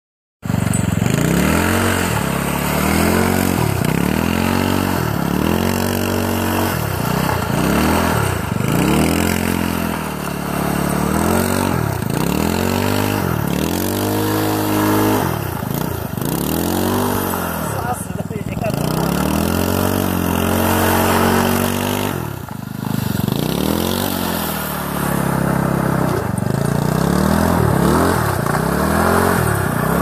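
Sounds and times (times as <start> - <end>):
small gasoline engine revving: 0.4 - 30.0.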